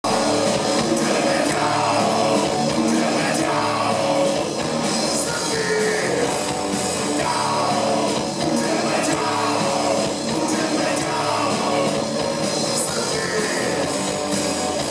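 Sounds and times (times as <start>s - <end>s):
bass guitar: 0.0s - 14.9s
drum kit: 0.0s - 14.9s
electric guitars: 0.0s - 14.9s.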